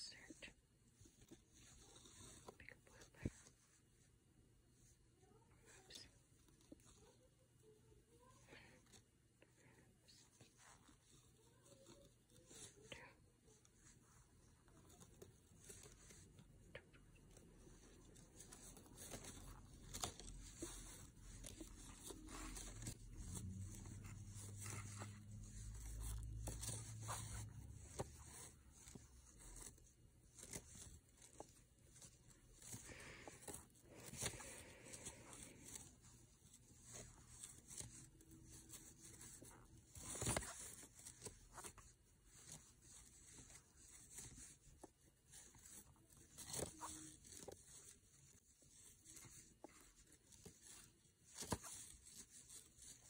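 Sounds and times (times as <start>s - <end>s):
yarn rustling through crochet hook: 0.0s - 53.0s.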